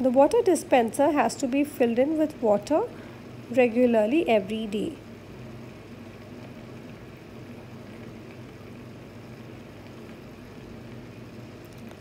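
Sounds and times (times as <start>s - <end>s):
faint hiss: 0.0s - 12.0s
steady low hum: 0.0s - 12.0s.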